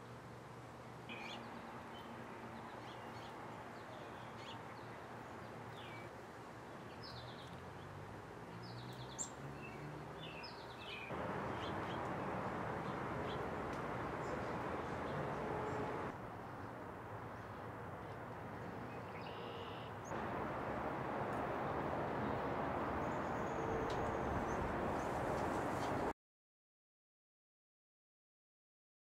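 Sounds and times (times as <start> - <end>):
outdoor background hiss: 0.0 - 26.1
songbirds chirping: 1.1 - 26.1.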